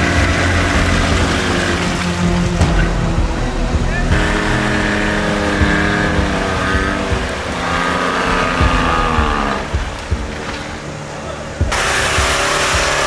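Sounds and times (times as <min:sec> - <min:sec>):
engine labouring through mud: 0:00.0 - 0:13.0.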